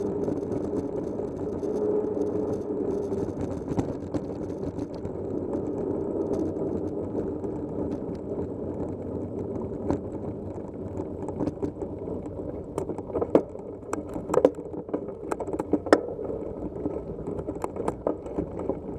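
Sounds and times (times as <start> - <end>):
tyres rumbling on gravel: 0.0 - 18.9
vehicle rattles and knocks: 0.0 - 18.9.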